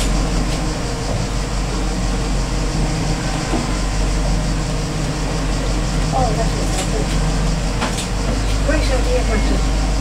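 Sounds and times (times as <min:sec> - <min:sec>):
low machinery drone: 0:00.0 - 0:10.0.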